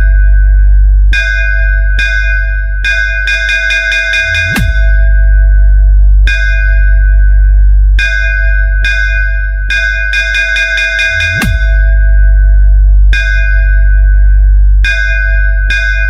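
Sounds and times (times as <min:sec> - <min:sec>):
bass sweep: 0:00.0 - 0:16.0
heavy sub-bass: 0:00.0 - 0:16.0
ringing bell-like synth tones: 0:00.0 - 0:16.0.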